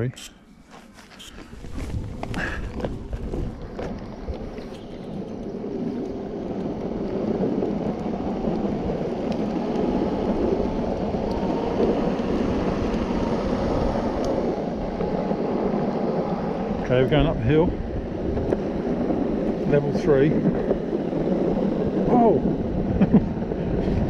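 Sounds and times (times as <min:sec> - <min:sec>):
skateboard wheels rolling on asphalt: 0:00.5 - 0:24.0
wind on microphone: 0:01.0 - 0:24.0.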